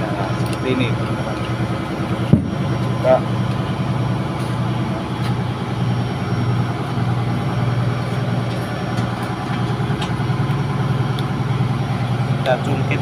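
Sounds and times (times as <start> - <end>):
diesel machinery drone: 0.0 - 13.0.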